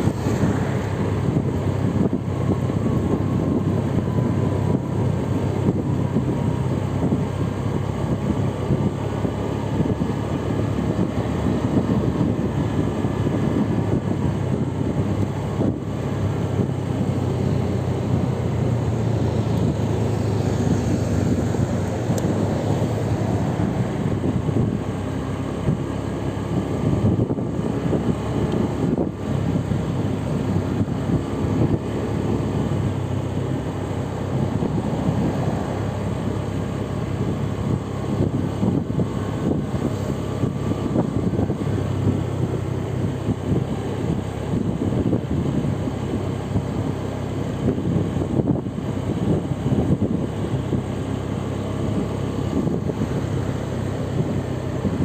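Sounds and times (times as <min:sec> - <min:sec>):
vehicle and road rumble: 0:00.0 - 0:55.0
wind on microphone: 0:00.0 - 0:55.0.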